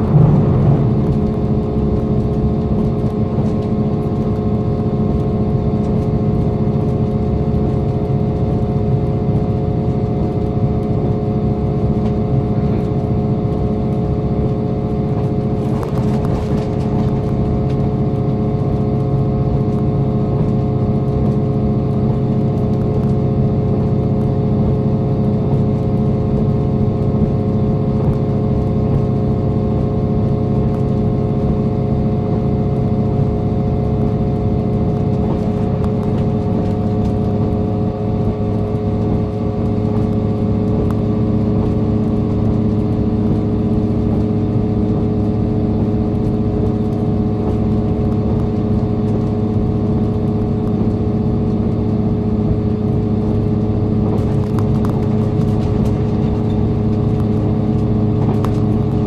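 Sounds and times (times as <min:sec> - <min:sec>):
diesel train engine drone: 0:00.0 - 0:59.0
wheels rumbling on rail: 0:00.0 - 0:59.0.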